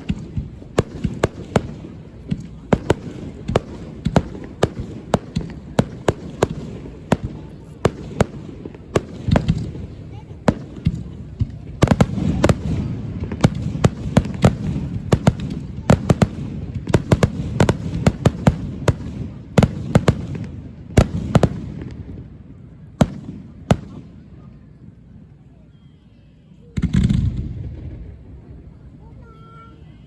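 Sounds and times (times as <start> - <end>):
fireworks bangs and crackles: 0.0 - 25.6, 26.7 - 29.8.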